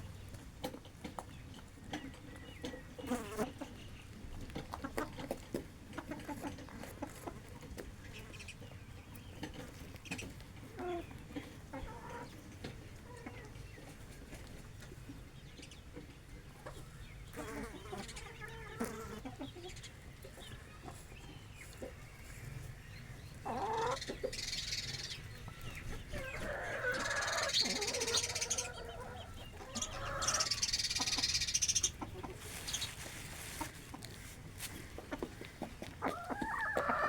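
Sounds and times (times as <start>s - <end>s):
hens and rooster clucking: 0.0s - 37.0s.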